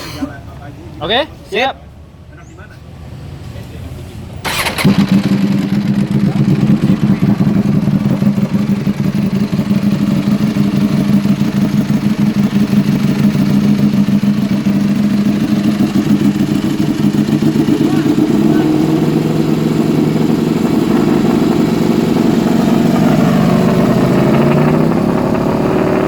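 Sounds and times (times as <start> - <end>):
motorcycle engine idling: 4.4 - 26.0.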